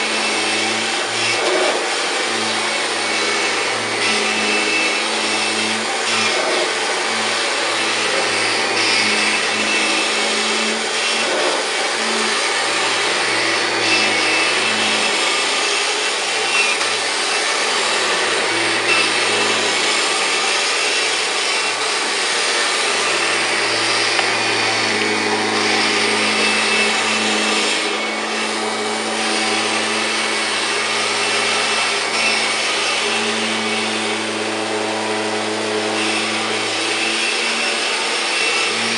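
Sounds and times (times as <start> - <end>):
vacuum cleaner motor hum: 0.0 - 38.9.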